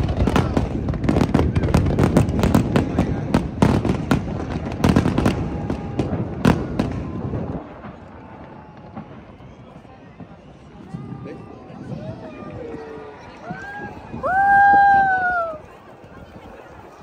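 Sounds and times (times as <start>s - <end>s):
fireworks bangs: 0.0s - 16.8s.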